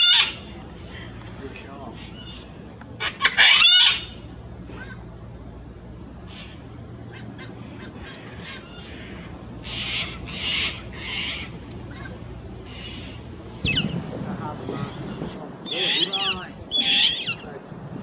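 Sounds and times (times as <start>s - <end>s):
cockatoo screeching: 0.0s - 0.6s, 1.8s - 5.1s, 6.3s - 14.0s, 14.6s - 17.5s.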